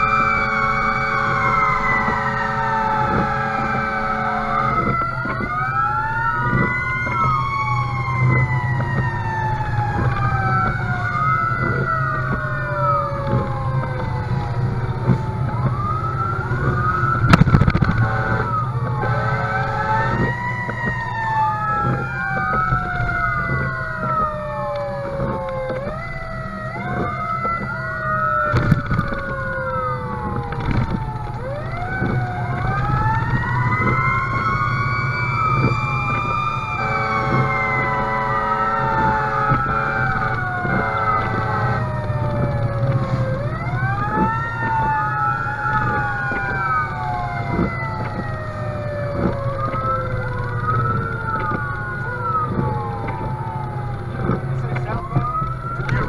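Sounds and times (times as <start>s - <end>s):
engine and road rumble: 0.0s - 56.0s
fire engine sirens wailing: 0.0s - 56.0s.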